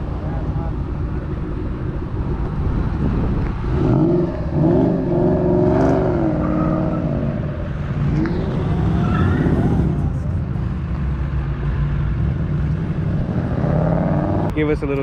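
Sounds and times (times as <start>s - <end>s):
car engine revving: 2.0s - 14.5s.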